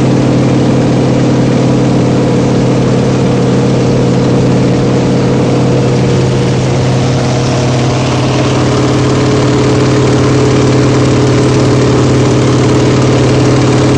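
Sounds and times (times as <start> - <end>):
aircraft radial engine and propeller: 0.0 - 13.9.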